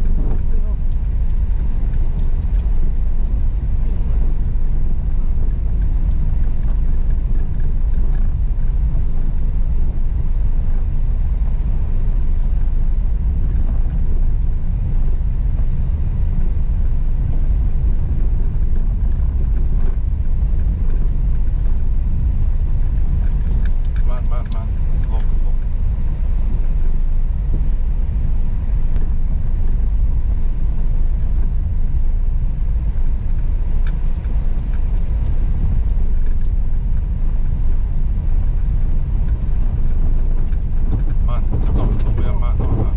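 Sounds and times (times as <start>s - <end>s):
car rumbling over rocky road: 0.0s - 42.9s.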